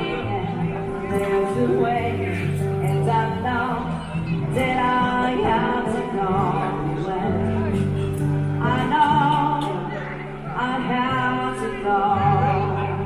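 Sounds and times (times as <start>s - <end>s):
music with singing voices: 0.0s - 13.0s.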